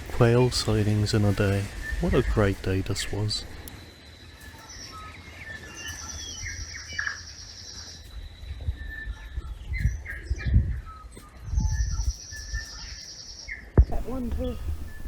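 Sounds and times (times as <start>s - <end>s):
birds singing: 0.0s - 15.0s.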